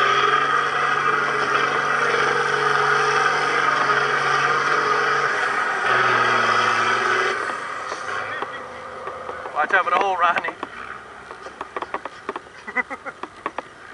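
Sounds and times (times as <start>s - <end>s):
truck engine under load: 0.0s - 13.9s.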